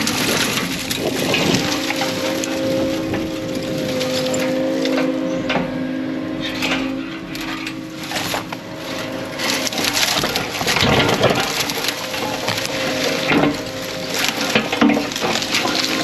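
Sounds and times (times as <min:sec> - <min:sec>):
branches crackling and snapping: 0:00.0 - 0:16.0
machine engine humming: 0:00.0 - 0:16.0.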